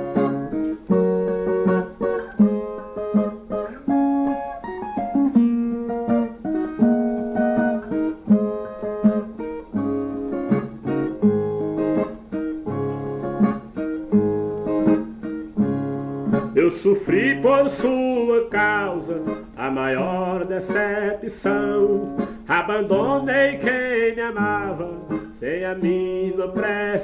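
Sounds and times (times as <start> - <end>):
steel-strung guitar melody: 0.0 - 27.0.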